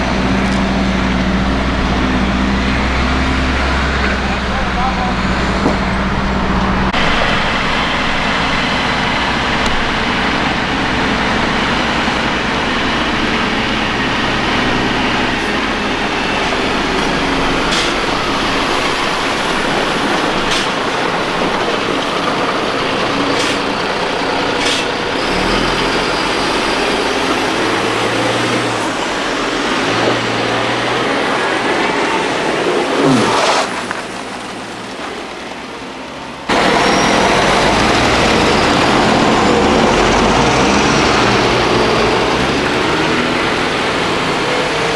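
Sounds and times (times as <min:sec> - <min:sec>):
road noise: 0:00.0 - 0:44.9
truck diesel engines driving: 0:00.0 - 0:44.9.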